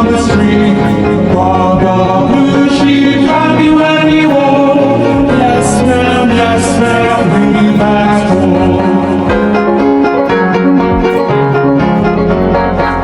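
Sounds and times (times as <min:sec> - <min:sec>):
upbeat keyboard instrumental music: 0:00.0 - 0:13.0.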